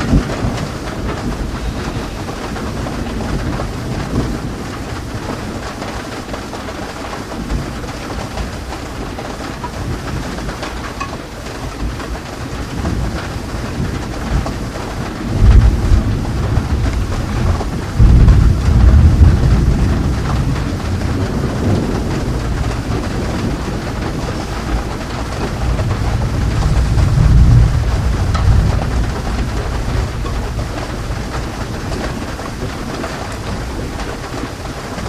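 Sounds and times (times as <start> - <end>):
steady rain: 0.0 - 35.0
thunder rolling: 0.0 - 35.0.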